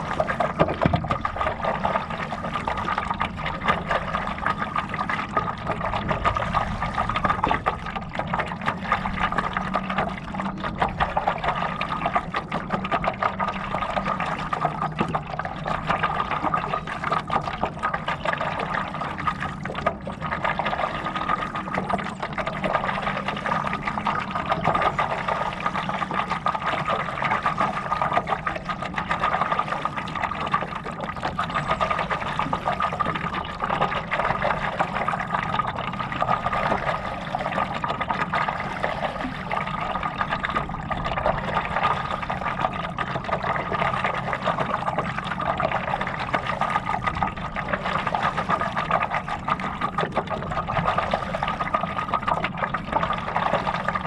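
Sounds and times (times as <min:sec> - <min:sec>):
water splashing around paddleboard: 0:00.0 - 0:54.0.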